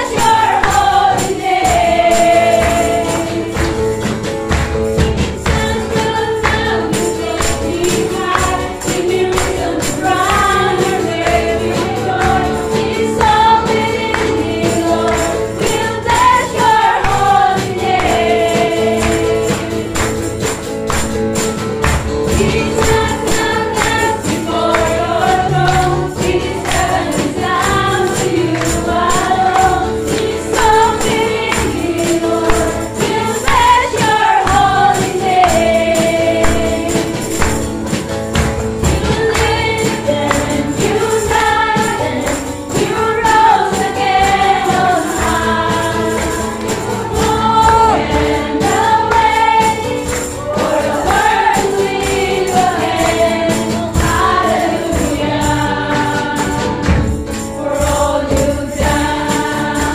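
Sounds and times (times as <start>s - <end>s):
voices singing: 0.0s - 4.2s, 5.2s - 20.5s, 22.2s - 37.8s, 38.7s - 59.9s
drum kit: 0.0s - 59.9s
guitar: 0.0s - 59.9s
tambourines jingling: 0.0s - 59.9s.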